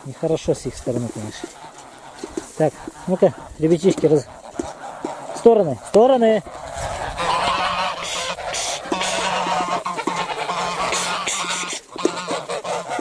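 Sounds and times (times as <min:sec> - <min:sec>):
geese honking: 0:00.2 - 0:13.0.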